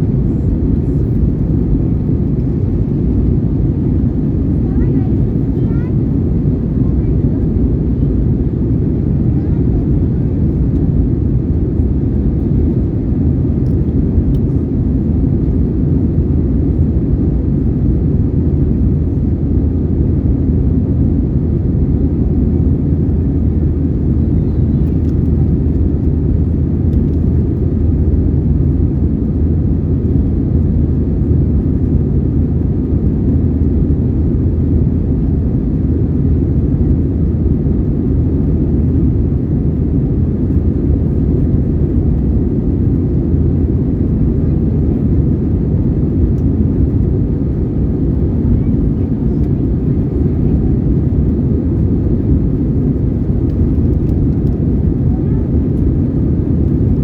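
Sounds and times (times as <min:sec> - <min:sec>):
airliner engine roar in cabin: 0:00.0 - 0:57.0.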